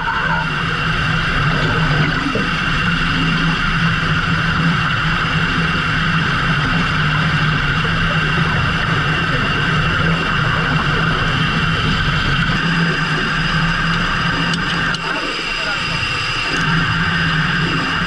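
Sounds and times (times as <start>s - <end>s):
boat engine humming: 0.0s - 18.0s
machinery whine: 0.0s - 18.0s.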